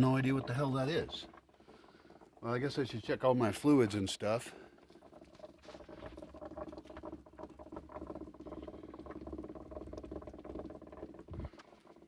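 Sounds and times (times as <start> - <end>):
engine bubbling and ticking: 0.0 - 12.0.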